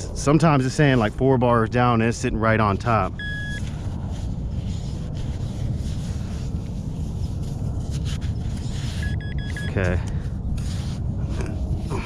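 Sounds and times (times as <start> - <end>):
low rumbling outdoor noise: 0.0 - 12.0.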